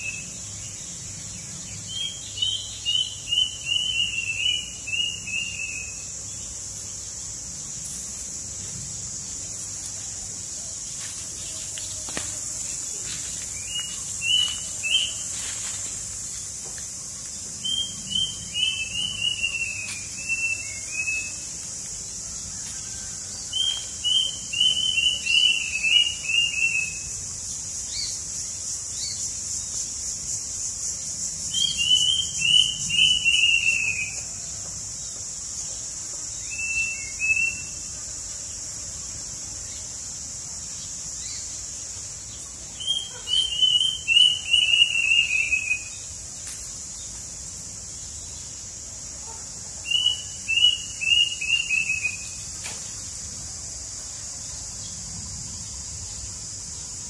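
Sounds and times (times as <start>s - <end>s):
high insect buzz: 0.0s - 57.0s
songbird singing: 0.0s - 57.0s.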